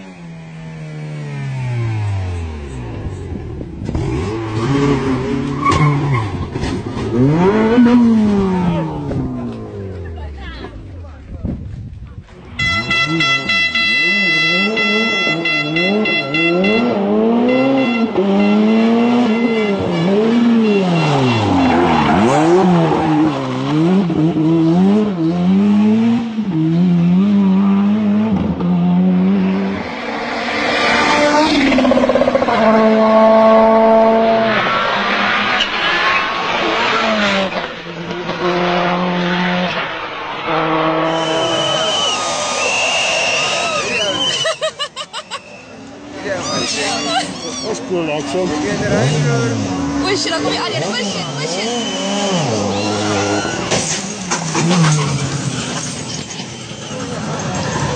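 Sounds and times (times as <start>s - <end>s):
rally car engines revving: 0.0s - 57.9s.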